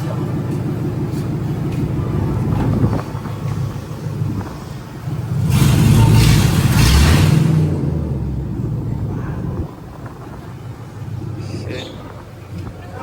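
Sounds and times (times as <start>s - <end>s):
loud rushing noise: 0.0s - 11.3s
car engine revving: 0.0s - 13.0s.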